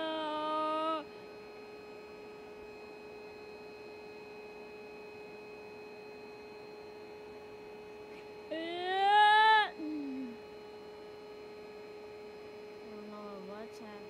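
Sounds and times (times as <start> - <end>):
electric air pump humming: 0.0 - 14.0.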